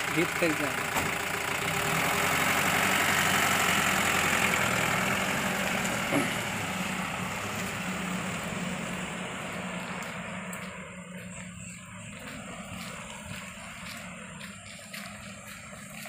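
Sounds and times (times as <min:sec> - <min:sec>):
vehicle engine pulling away: 0:00.0 - 0:16.0.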